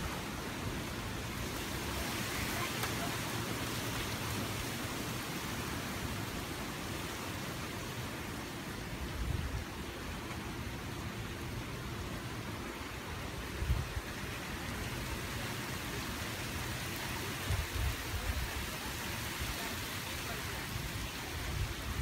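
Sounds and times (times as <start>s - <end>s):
rain and wind hissing: 0.0s - 22.0s.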